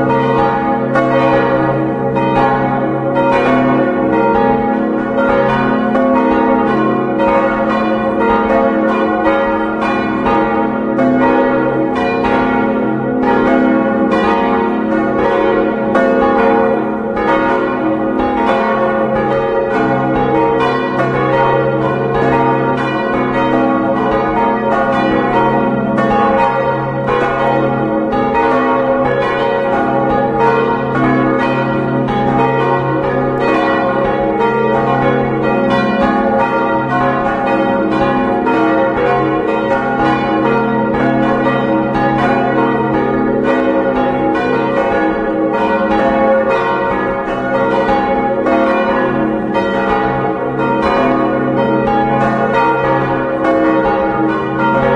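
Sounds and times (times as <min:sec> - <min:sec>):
church bells pealing: 0:00.0 - 0:54.9.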